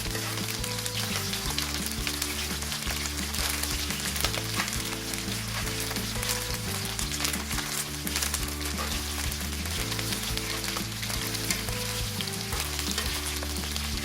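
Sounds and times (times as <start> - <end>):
low background music: 0.0 - 14.0
wings sizzling in hot oil: 0.0 - 14.0.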